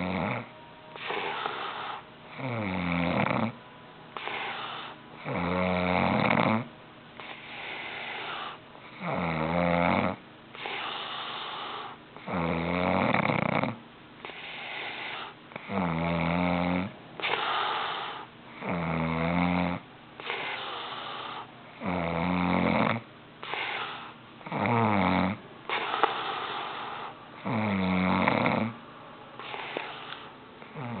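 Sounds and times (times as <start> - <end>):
man snoring: 0.0 - 3.6, 4.2 - 28.8, 29.4 - 31.0.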